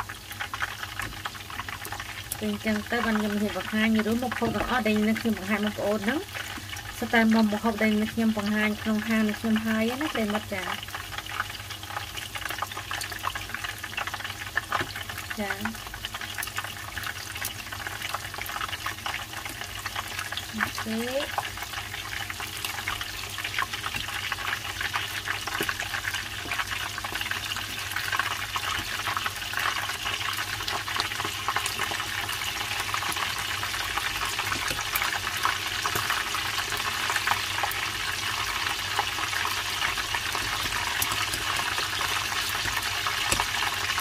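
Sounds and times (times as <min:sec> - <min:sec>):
food deep-frying in hot oil: 0:00.0 - 0:44.0.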